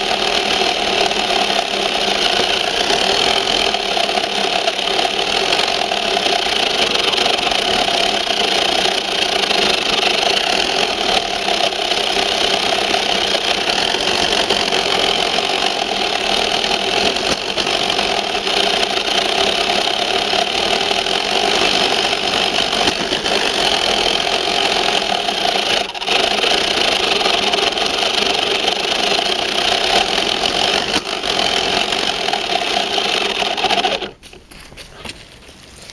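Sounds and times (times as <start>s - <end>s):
toy truck motor whining: 0.0s - 34.5s.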